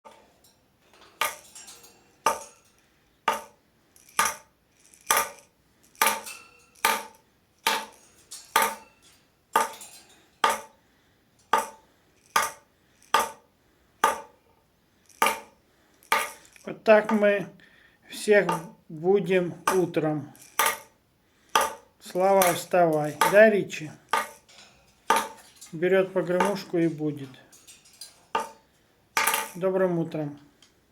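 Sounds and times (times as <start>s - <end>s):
bird banging a rattle toy: 0.1s - 10.8s, 11.4s - 17.4s, 19.6s - 29.8s.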